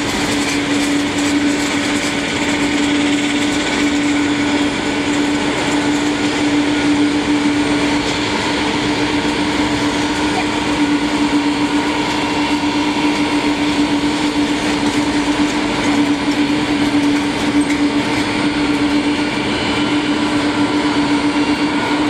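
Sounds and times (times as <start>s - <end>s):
turboprop engines droning: 0.0s - 22.0s.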